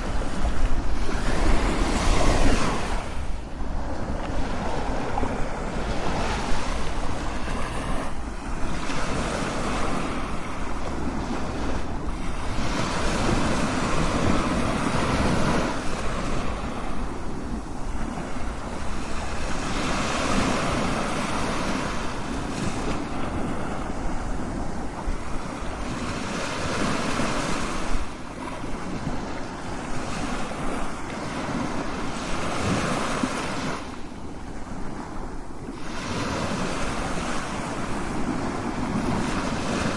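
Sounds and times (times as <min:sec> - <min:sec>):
ocean waves breaking: 0:00.0 - 0:39.9
wind: 0:00.0 - 0:39.9.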